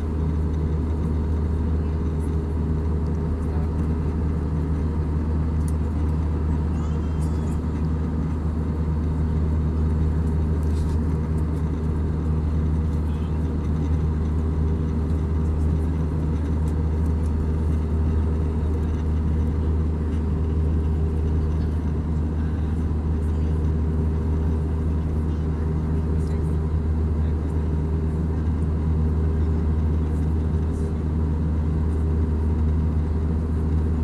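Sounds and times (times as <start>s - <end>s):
airplane cabin engine drone: 0.0s - 34.0s.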